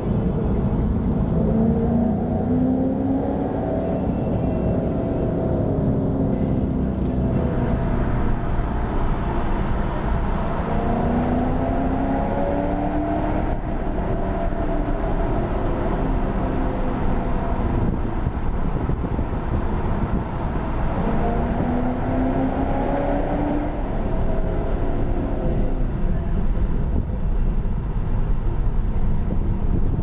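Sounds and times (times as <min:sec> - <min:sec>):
car engine revving under load: 0:00.0 - 0:27.1
road rumble: 0:00.0 - 0:30.0.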